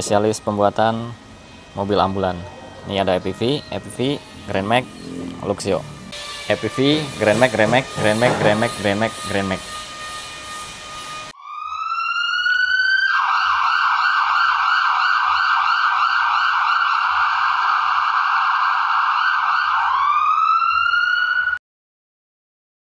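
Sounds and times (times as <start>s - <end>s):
emergency vehicle siren: 0.0s - 21.6s.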